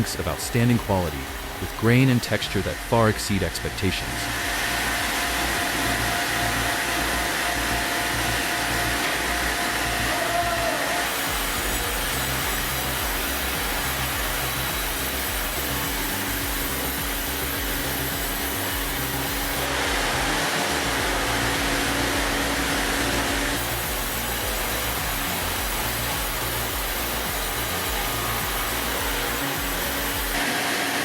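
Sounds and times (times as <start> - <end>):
music with pulsing bass beat: 0.0 - 10.6, 11.2 - 30.4
heavy machinery running: 0.0 - 31.0.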